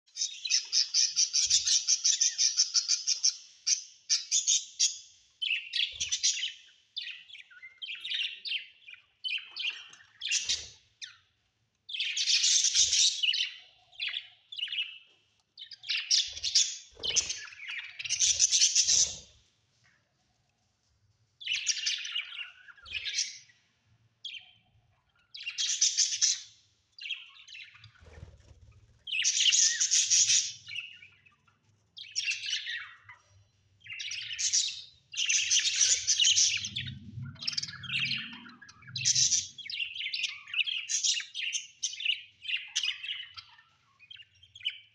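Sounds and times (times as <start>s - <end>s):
budgerigars chirping and warbling: 0.1s - 19.5s, 21.4s - 44.9s.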